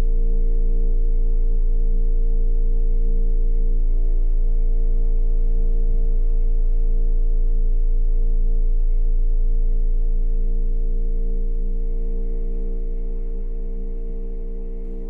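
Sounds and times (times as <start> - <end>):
ominous deep bass drone: 0.0 - 15.0.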